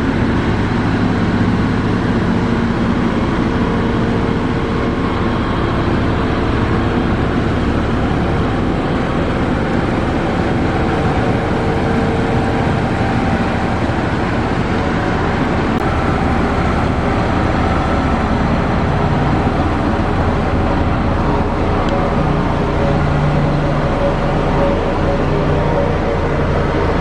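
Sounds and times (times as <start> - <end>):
diesel engines running under load: 0.0 - 27.0.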